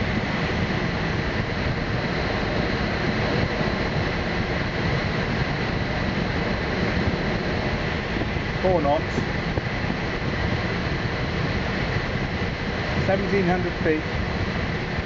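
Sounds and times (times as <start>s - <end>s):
airflow rushing around cockpit: 0.0s - 15.0s.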